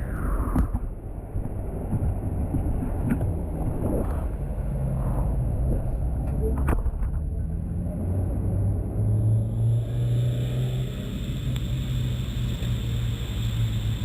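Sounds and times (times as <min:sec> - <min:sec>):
road noise: 0:00.0 - 0:14.0
vehicle engine hum: 0:01.2 - 0:14.0.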